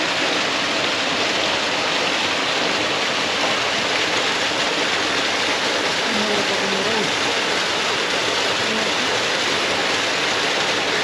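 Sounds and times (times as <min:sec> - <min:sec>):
water splashing into pond: 0:00.0 - 0:11.0.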